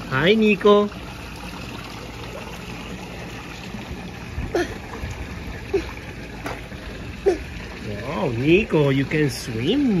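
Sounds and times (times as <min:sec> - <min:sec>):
pool water lapping: 0:00.0 - 0:10.0
small water splashes: 0:00.0 - 0:10.0.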